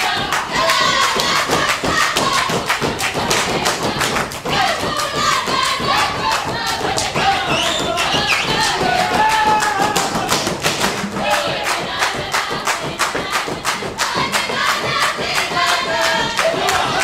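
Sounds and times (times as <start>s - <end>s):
group singing: 0.0s - 17.0s
rhythmic hand claps: 0.0s - 17.0s.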